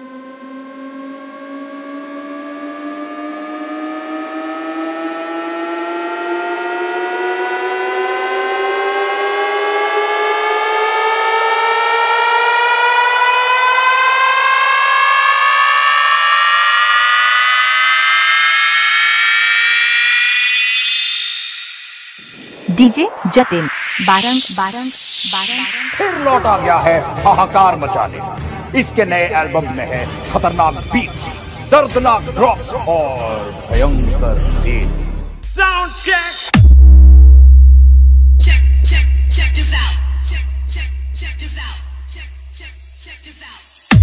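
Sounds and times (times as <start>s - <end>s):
electronic rising siren tones: 0.0s - 28.8s, 33.5s - 44.0s.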